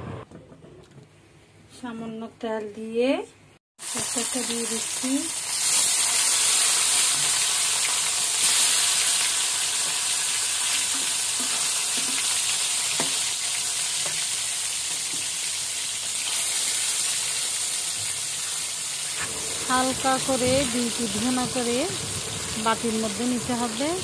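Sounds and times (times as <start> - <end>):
fish sizzling in hot oil: 3.8 - 24.0.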